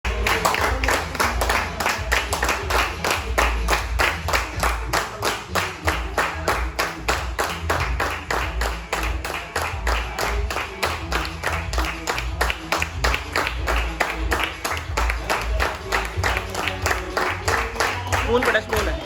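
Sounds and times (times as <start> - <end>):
group clapping in rhythm: 0.0 - 19.0.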